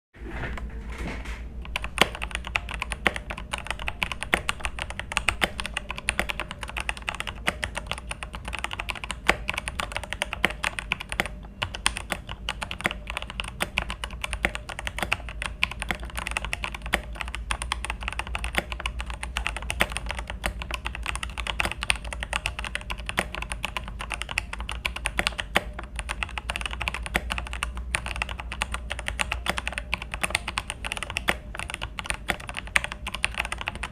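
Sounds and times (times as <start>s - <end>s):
fast typing on mechanical keyboard: 1.6s - 33.9s.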